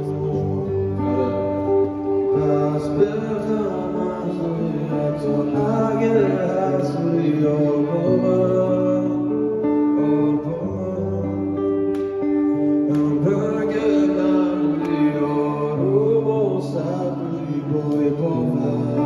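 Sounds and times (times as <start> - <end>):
acoustic guitar: 0.0 - 19.0
band backing: 0.0 - 19.0
man singing into a microphone: 0.0 - 19.0.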